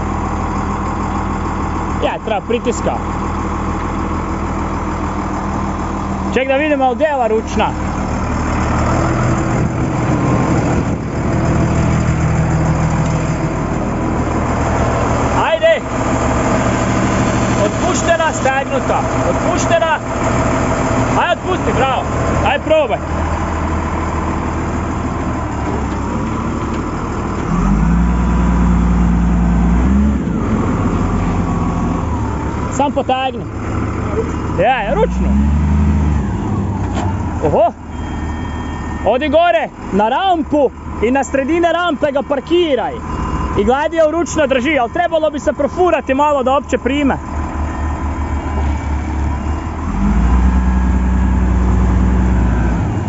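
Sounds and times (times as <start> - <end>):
wheel loader diesel engine running: 0.0 - 53.0.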